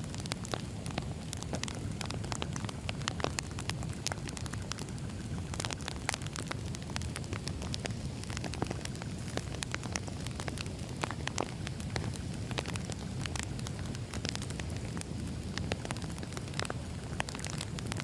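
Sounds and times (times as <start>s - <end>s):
firewood burning and crackling: 0.0s - 18.0s.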